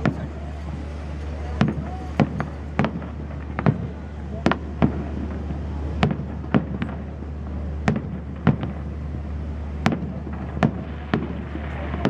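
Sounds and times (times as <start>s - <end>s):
fireworks bursting with sharp bangs: 0.0s - 12.0s
steady low rumble: 0.0s - 12.0s.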